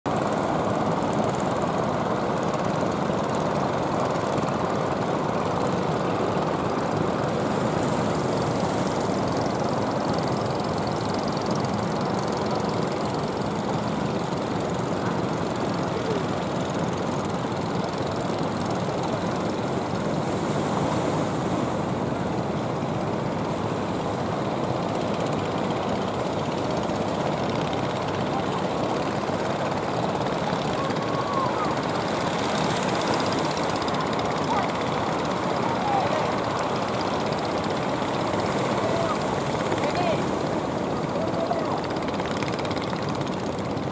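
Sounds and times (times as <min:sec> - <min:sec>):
boat engines droning: 0:00.1 - 0:43.9.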